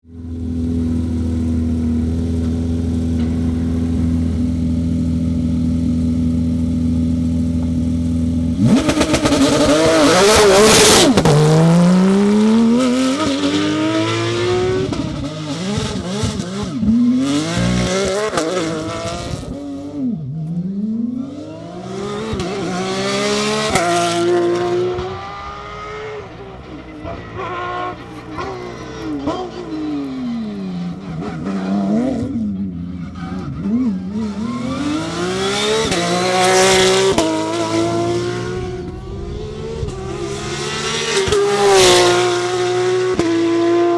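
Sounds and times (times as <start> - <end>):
car engine revving and accelerating: 0.1 - 43.9.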